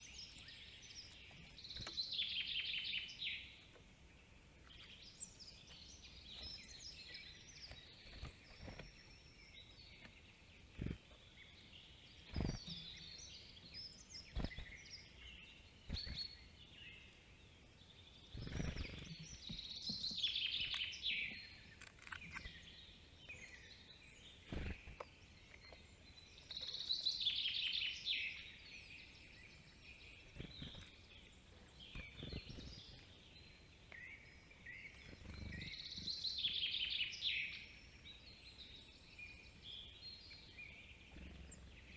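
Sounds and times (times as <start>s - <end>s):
descending trilled bird song: 0.0s - 41.9s
songbirds singing: 0.0s - 41.9s.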